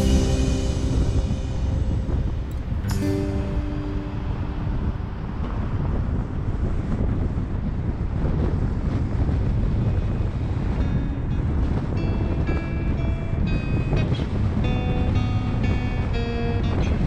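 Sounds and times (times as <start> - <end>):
road and wind noise rumble: 0.0 - 17.0.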